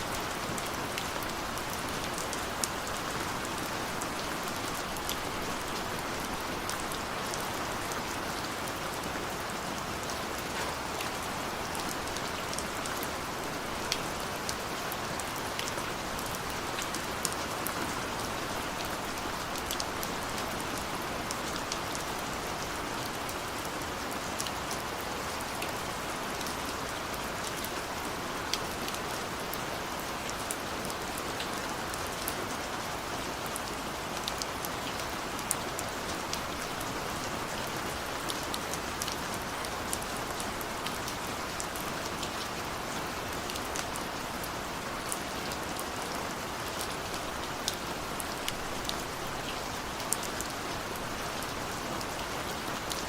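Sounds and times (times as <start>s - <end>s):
rain pattering on a window: 0.0s - 53.0s.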